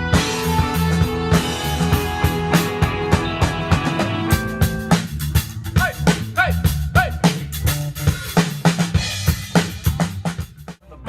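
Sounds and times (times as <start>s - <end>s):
bass drum and snare beat: 0.0s - 10.8s
rock band instrumental: 0.0s - 10.8s.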